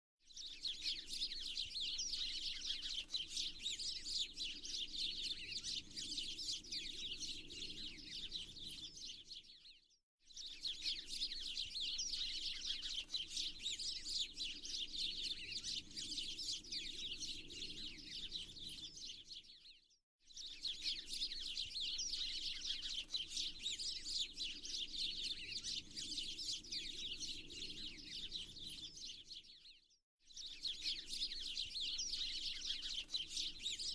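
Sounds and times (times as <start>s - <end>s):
chorus of small birds chirping: 0.3s - 33.9s.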